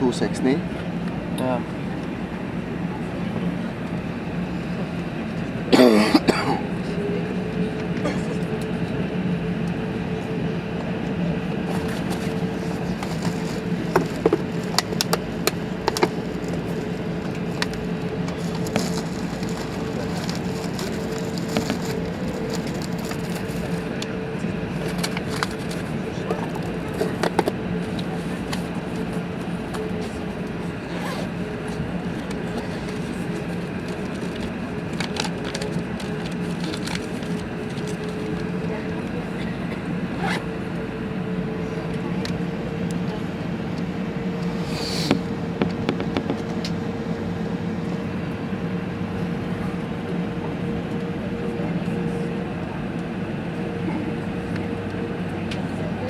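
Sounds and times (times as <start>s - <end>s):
aircraft cabin rush and hum: 0.0s - 56.0s.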